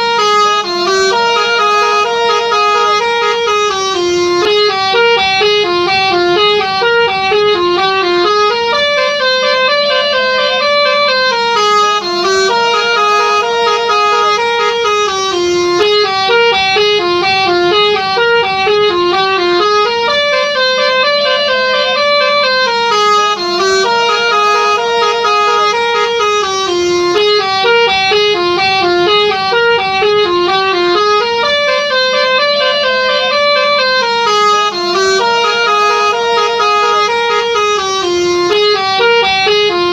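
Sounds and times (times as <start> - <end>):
multi-tone horn melody: 0.0 - 39.9.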